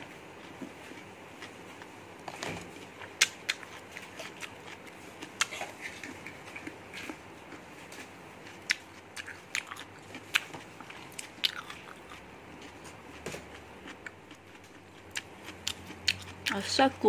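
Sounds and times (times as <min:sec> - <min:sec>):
person chewing noodles: 0:00.0 - 0:16.7.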